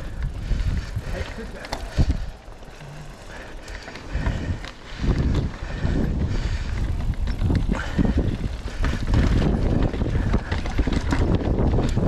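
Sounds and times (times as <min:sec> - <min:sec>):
bike clicks and rattles: 0:00.0 - 0:12.0
bike tyres rumbling on rocks: 0:00.0 - 0:12.0.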